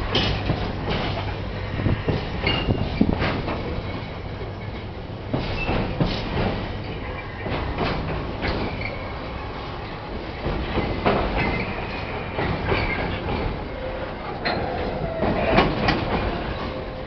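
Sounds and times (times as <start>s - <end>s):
train wheels clattering over rail joints: 0.0s - 17.0s.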